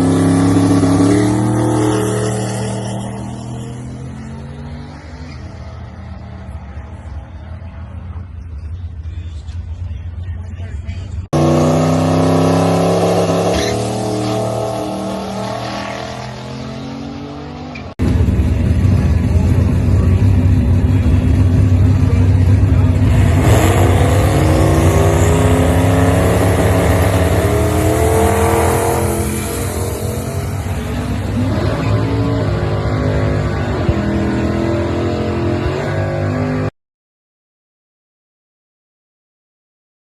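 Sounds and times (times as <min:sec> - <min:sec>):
turbocharged car engine: 0:00.0 - 0:36.7.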